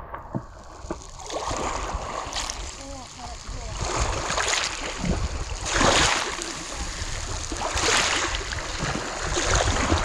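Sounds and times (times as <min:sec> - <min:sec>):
waves breaking on the shore: 0:00.0 - 0:10.0
wind rumble on microphone: 0:00.0 - 0:10.0.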